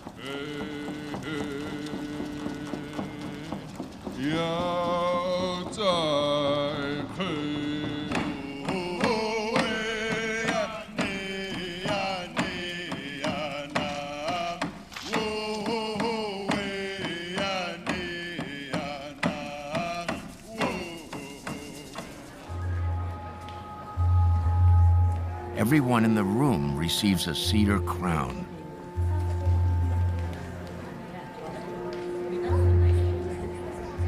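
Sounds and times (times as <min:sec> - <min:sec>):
chanted singing: 0:00.0 - 0:34.0
percussion strikes: 0:00.0 - 0:34.0.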